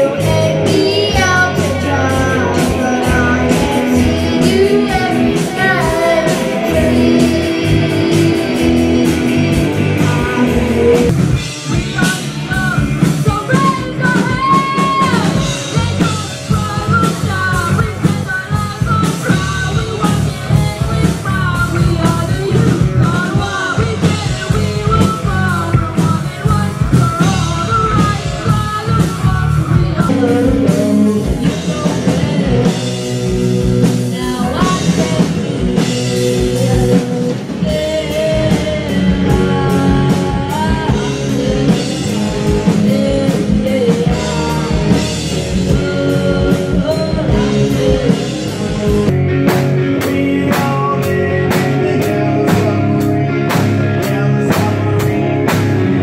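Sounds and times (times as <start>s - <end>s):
lead vocalist singing: 0.0s - 56.0s
rock band playing: 0.0s - 56.0s
steady drum beat: 0.0s - 56.0s.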